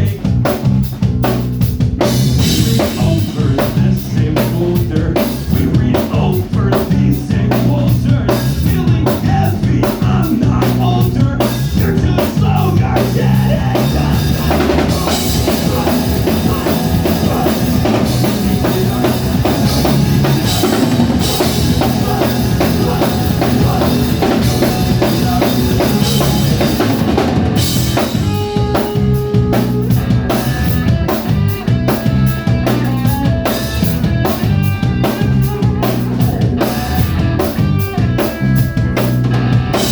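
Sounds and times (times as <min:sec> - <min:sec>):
bass drum and snare beat: 0:00.0 - 0:39.9
live rock band playing: 0:00.0 - 0:39.9.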